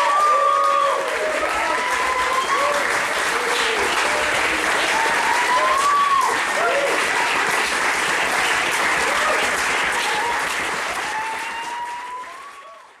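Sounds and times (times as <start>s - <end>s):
audience whooping: 0.0s - 7.4s, 8.9s - 13.0s
audience applauding: 0.0s - 13.0s.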